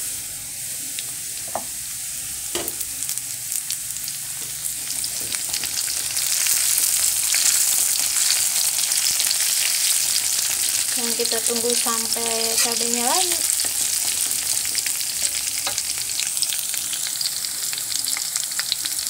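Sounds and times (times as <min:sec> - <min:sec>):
aromatics sizzling in wok: 0:00.0 - 0:19.0.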